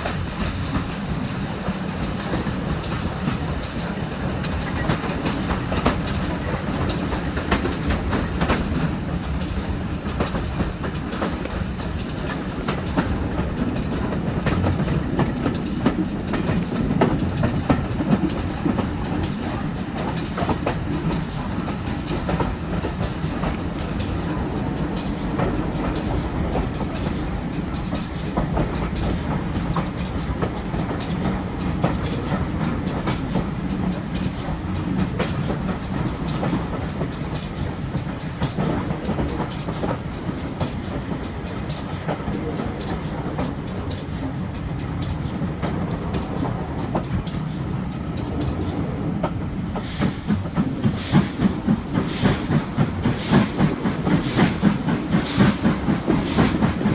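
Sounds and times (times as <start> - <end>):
steam locomotive exhaust chuffs: 0.0 - 56.9
train carriages rumbling: 0.0 - 56.9
wheels clacking over rail joints: 0.0 - 56.9.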